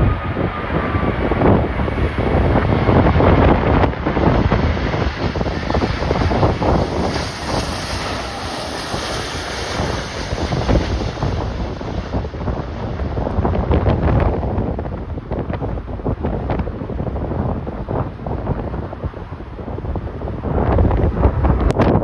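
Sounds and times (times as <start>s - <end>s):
gusty storm wind on microphone: 0.0s - 22.0s.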